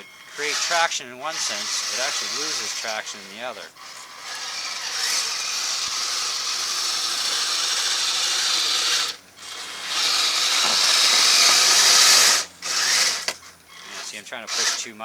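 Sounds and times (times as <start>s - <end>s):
blade pushing snow: 0.0s - 15.0s
toy snow tractor motor running: 0.0s - 15.0s.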